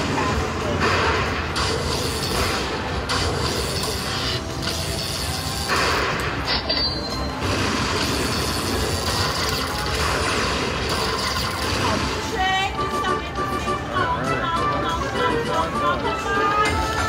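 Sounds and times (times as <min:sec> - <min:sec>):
busy casino background: 0:00.0 - 0:17.0
slot machine bonus music: 0:00.0 - 0:17.0.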